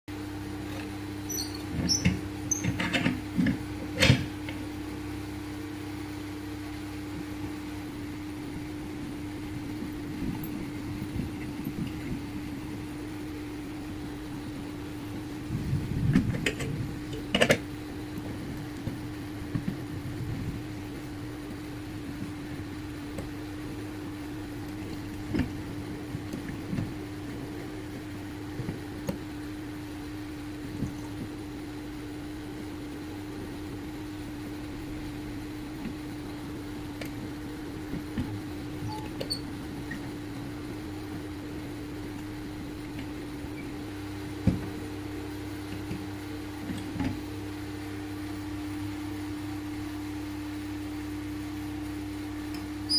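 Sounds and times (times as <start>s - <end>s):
machine motor humming: 0.4s - 50.2s.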